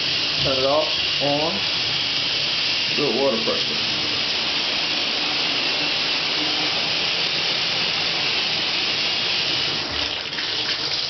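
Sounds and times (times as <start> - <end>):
shower water spraying: 0.0 - 11.0.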